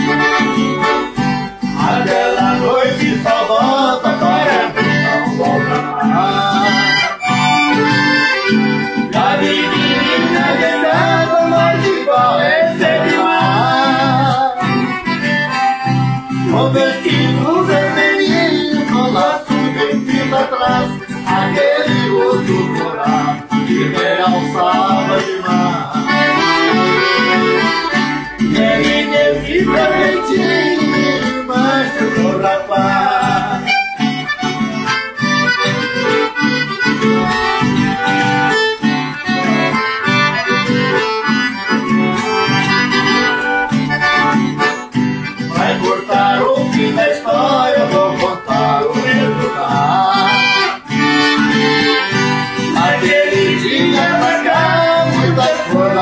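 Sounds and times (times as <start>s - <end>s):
accordion melody: 0.0s - 56.0s
strummed string instrument: 0.0s - 56.0s.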